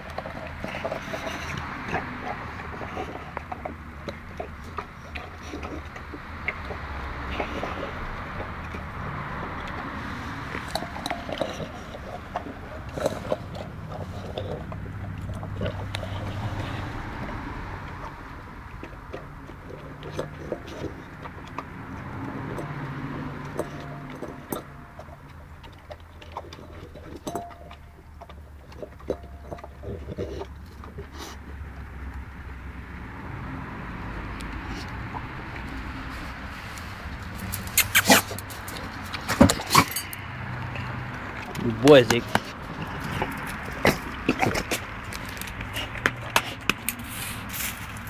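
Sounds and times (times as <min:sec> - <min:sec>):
dog crunching bones: 0:00.0 - 0:36.1, 0:37.1 - 0:48.0.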